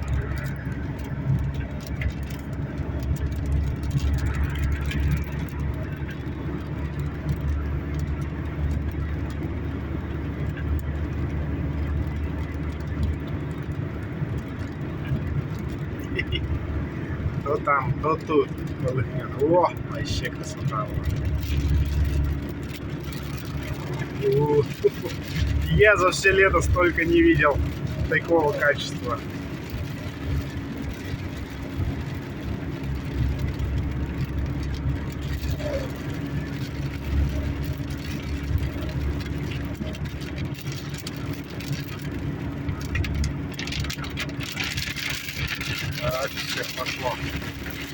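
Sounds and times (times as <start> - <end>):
low rumble inside car: 0.0 - 47.9
rain ticking on car: 0.0 - 47.9.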